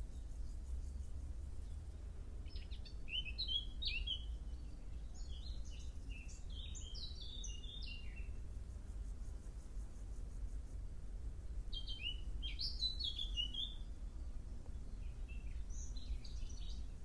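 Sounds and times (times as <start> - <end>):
low background rumble: 0.0 - 17.0
songbird chirping: 0.0 - 17.0.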